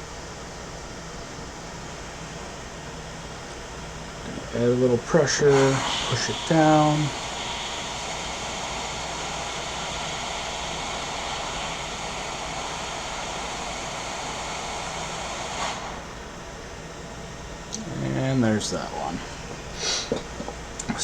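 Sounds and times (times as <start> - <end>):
hot air station blowing: 0.8 - 21.0.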